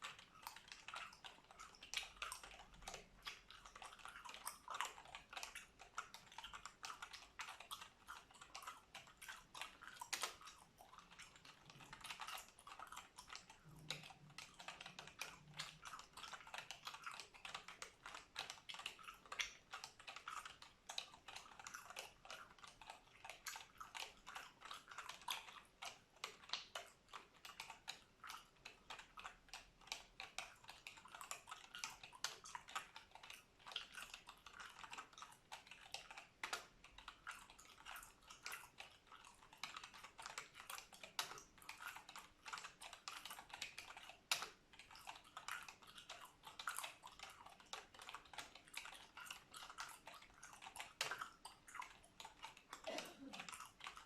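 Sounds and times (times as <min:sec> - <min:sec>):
gum chewing: 0:00.0 - 0:54.0.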